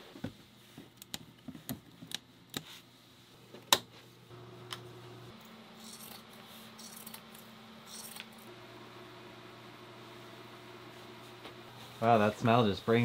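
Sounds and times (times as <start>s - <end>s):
faint steady hum: 0.2s - 13.0s.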